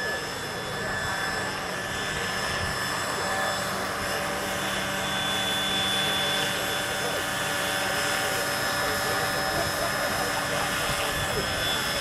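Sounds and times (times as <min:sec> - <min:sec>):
electric drive whining: 0:00.0 - 0:12.0.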